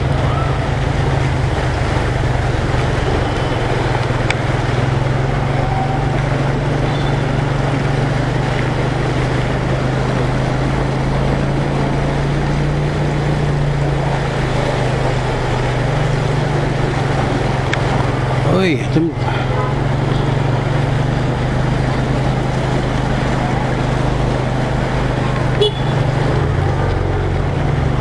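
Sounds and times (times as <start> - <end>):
water splashing from wheel: 0.0 - 28.0.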